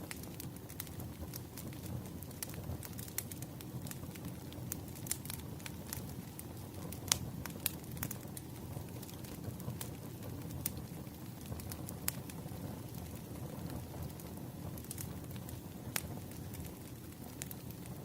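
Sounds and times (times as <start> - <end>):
campfire crackling and popping: 0.0 - 18.0
low rush of burning: 0.0 - 18.0.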